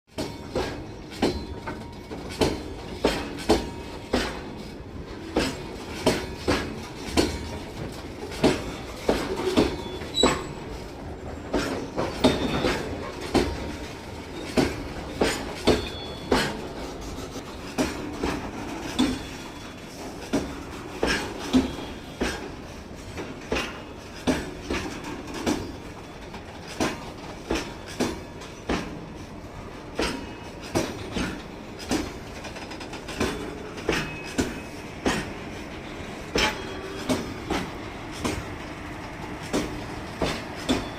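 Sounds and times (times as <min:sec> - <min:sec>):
low rumble of moving train: 0:00.1 - 0:40.9
train wheels clattering over rail joints: 0:00.1 - 0:40.9.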